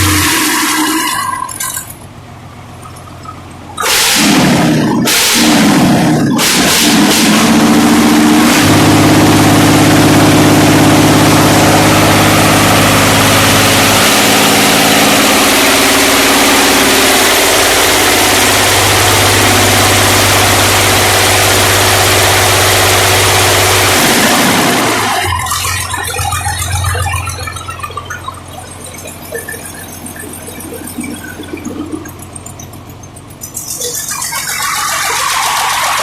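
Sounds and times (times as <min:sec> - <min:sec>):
diesel engine running loudly: 0:00.0 - 0:36.0.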